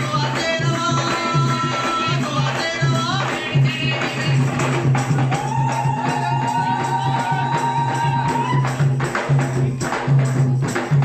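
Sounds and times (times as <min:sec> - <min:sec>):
hand drums beating: 0:00.0 - 0:11.0.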